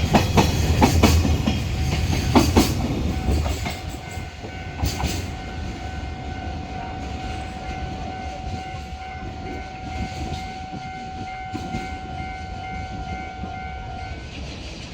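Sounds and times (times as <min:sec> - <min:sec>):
freight train rumbling past: 0:00.0 - 0:14.9.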